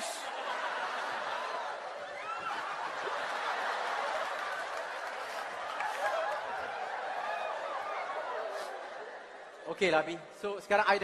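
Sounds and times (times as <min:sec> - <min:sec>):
audience laughing: 0:00.0 - 0:09.3.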